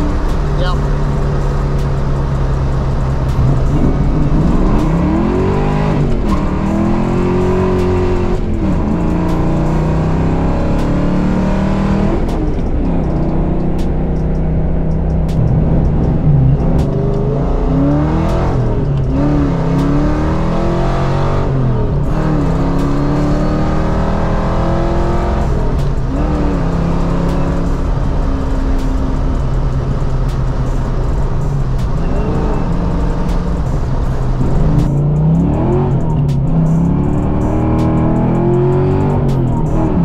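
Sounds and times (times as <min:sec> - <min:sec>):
car engine accelerating and shifting: 0:00.0 - 0:40.0.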